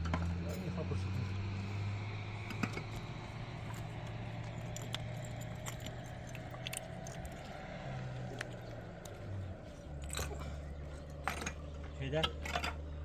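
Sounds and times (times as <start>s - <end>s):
metallic clinking and jingling: 2.4s - 12.9s.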